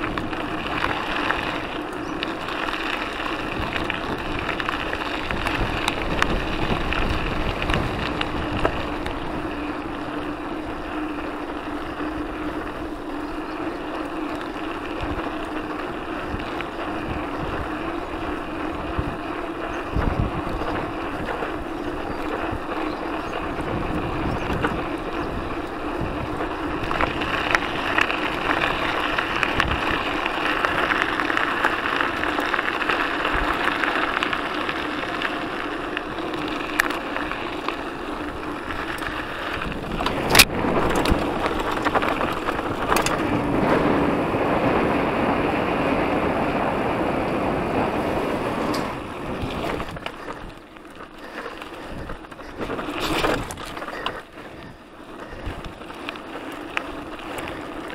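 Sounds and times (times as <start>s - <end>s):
bike rattling and knocking: 0.0s - 57.9s
bike tyres rolling on gravel: 0.0s - 57.9s
wind rushing over microphone: 0.0s - 57.9s.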